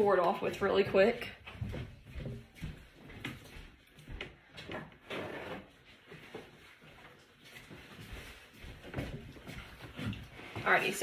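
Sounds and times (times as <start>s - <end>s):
rustling of things moved: 0.0s - 11.0s.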